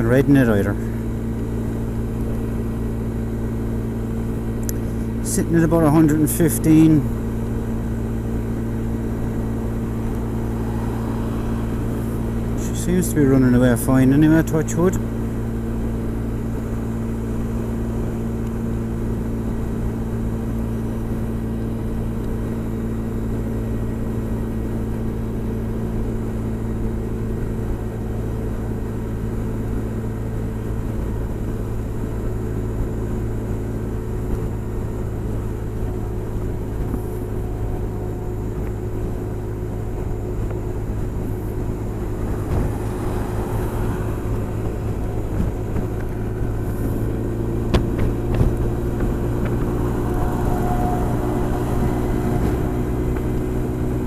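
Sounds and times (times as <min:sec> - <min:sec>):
wind and road noise: 0:00.0 - 0:54.0
scooter engine cruising: 0:00.1 - 0:54.0.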